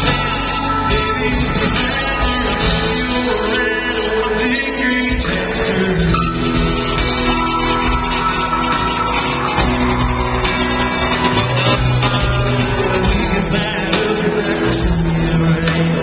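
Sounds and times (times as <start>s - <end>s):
electric guitars: 0.0s - 16.0s
live country band: 0.0s - 16.0s.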